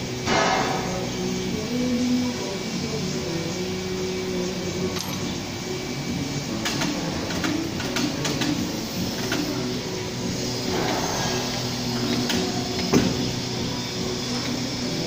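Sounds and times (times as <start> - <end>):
steady workshop hum: 0.0 - 15.0.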